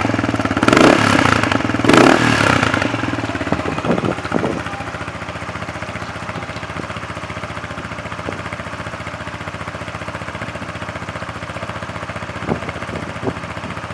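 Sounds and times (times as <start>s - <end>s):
scooter engine idling: 0.0s - 13.9s.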